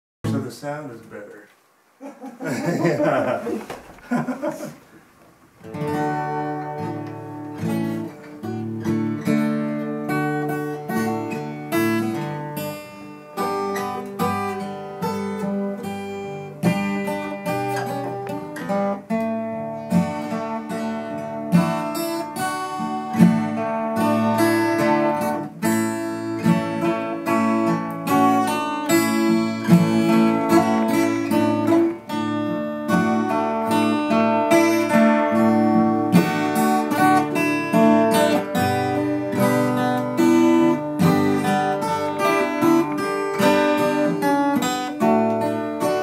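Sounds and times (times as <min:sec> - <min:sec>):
acoustic guitars duet: 0:00.2 - 0:46.0.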